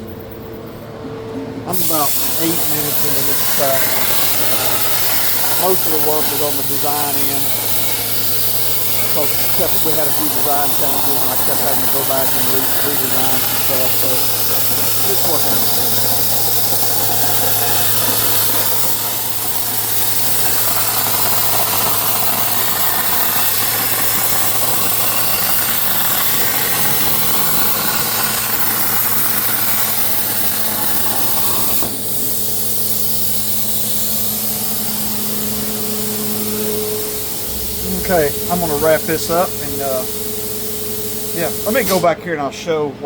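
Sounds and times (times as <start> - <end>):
machine humming: 0.8 - 42.2
plasma arc hissing: 1.7 - 42.2.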